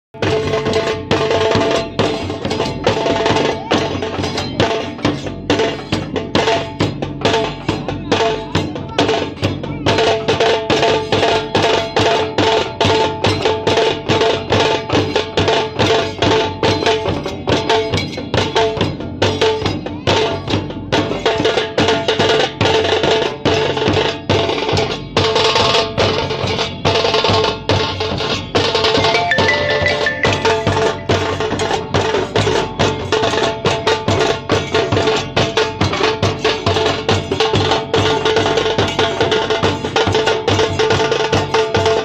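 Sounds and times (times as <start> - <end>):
drums beaten in fast rhythm: 0.2 - 42.0.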